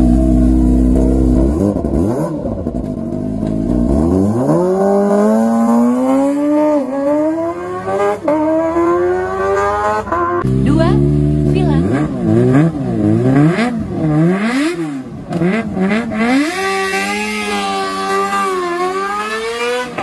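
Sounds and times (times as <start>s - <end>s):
motorcycle accelerating with rising wail: 0.0s - 20.0s
motorcycle engine revving: 0.0s - 20.0s.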